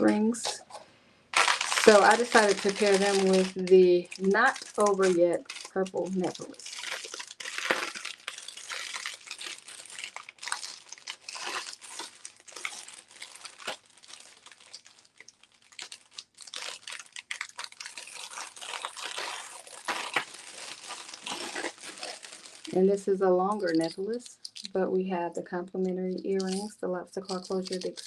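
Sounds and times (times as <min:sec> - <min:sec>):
packaging crinkling and rustling: 0:00.0 - 0:24.8, 0:26.1 - 0:28.0.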